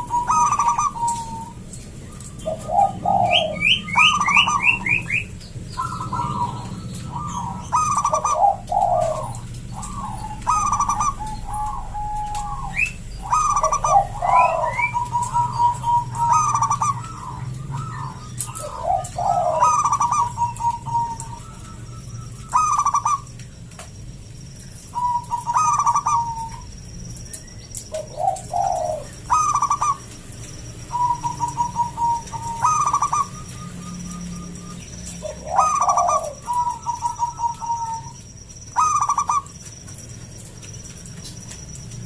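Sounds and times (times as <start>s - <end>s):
doves cooing: 0.0s - 24.0s, 24.6s - 42.0s.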